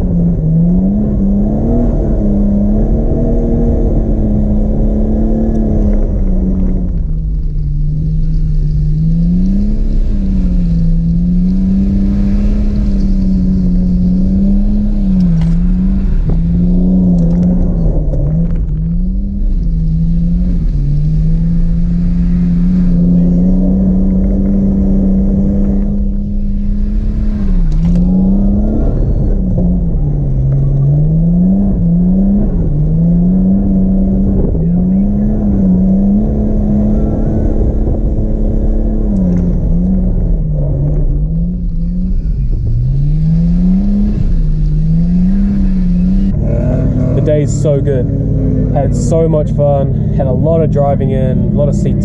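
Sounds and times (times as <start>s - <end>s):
car engine at high revs: 0.0s - 52.0s.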